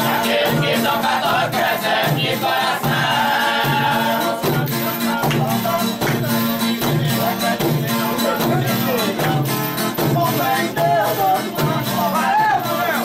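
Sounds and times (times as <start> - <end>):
guitar strumming: 0.0 - 13.0
large drums beating: 0.0 - 13.0
men singing in chorus: 0.0 - 13.0.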